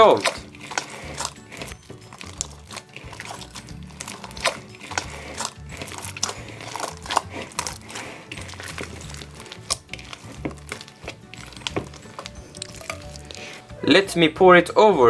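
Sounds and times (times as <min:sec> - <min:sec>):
slime crackling and clicking: 0:00.0 - 0:13.6
background music: 0:00.0 - 0:15.0.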